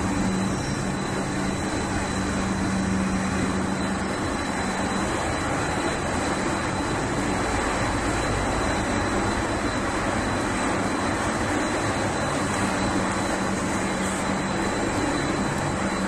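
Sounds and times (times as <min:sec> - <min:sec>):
high-pitched machine whine: 0:00.0 - 0:16.0
low machine hum: 0:00.0 - 0:16.0.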